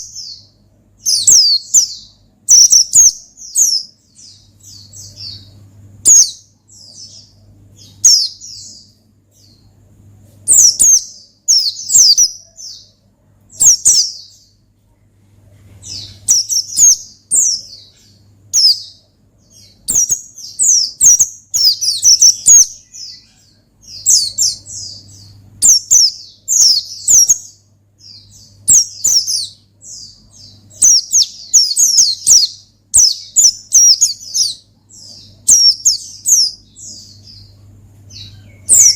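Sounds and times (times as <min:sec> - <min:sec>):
bird twittering song: 0:00.0 - 0:14.7, 0:15.7 - 0:38.9
faint low hum: 0:00.0 - 0:38.9.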